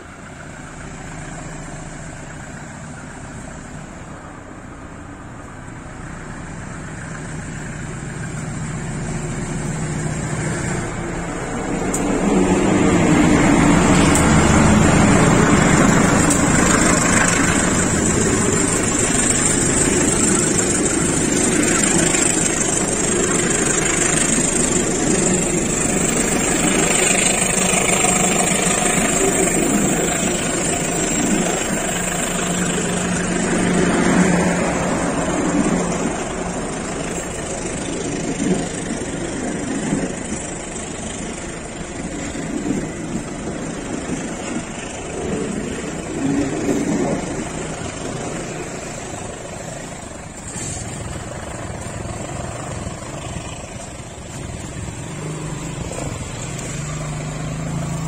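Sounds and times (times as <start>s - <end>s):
diesel locomotive engine working hard: 0.0s - 58.0s
train wheels on rails: 0.0s - 58.0s.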